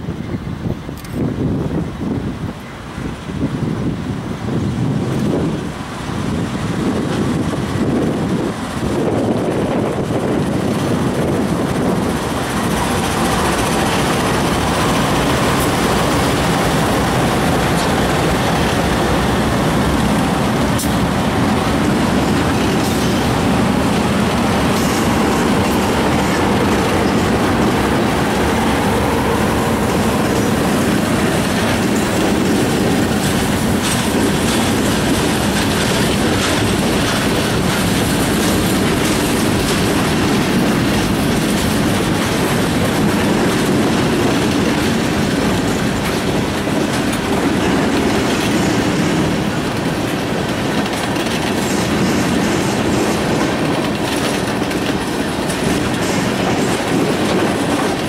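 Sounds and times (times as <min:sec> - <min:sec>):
diesel locomotives rumbling: 0:00.0 - 0:58.0
train wheels clickety-clack: 0:02.5 - 0:58.0.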